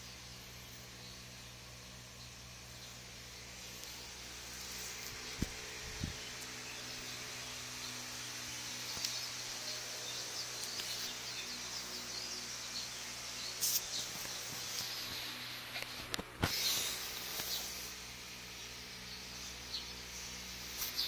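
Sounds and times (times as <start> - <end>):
steady hiss and low hum: 0.0 - 21.0.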